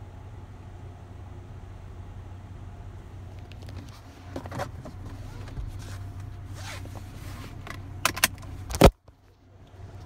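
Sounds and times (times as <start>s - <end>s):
low hum inside car: 0.0s - 10.0s.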